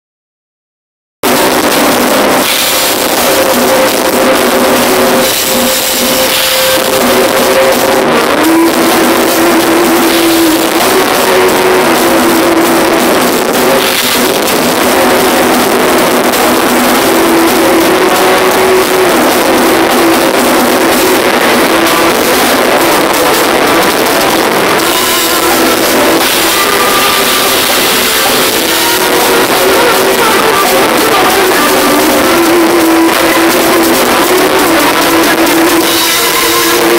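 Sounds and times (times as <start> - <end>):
loud live rock music: 1.2 - 36.9.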